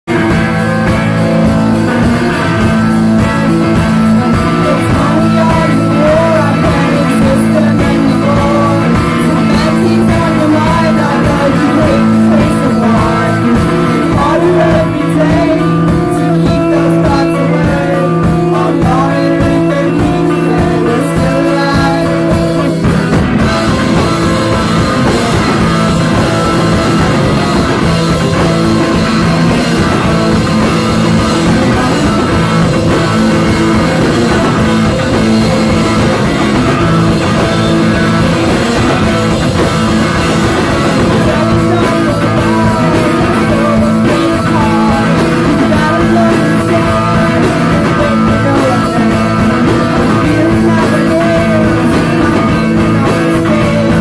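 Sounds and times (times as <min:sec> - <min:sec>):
drum kit: 0:00.0 - 0:54.0
electric guitar: 0:00.0 - 0:54.0
keyboard: 0:00.0 - 0:54.0
person singing: 0:00.1 - 0:54.0.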